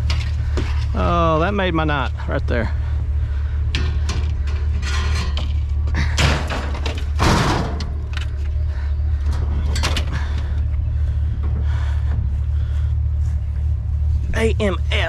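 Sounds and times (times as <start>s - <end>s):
light clanks and rattles: 0.0s - 14.3s
vehicle engine idling: 0.0s - 15.0s.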